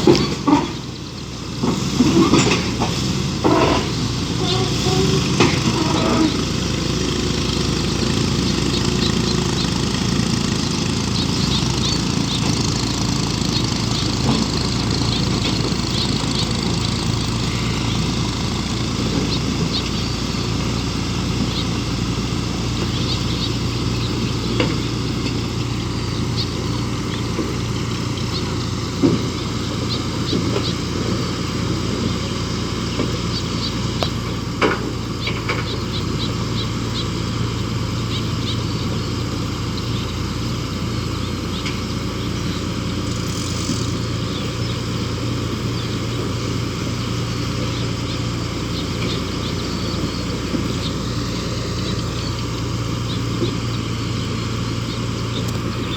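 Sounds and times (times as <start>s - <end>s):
large engine running: 0.0s - 55.9s.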